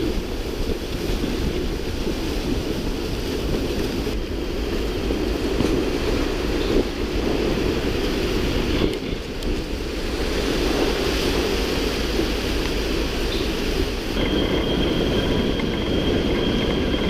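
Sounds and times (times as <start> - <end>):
low rumble: 0.0 - 17.0
sea: 0.0 - 17.0
wind: 0.0 - 17.0.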